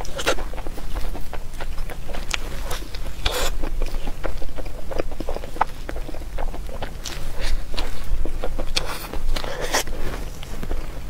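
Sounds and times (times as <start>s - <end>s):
chewing and biting: 0.0s - 11.0s
noisy crunch: 0.0s - 11.0s.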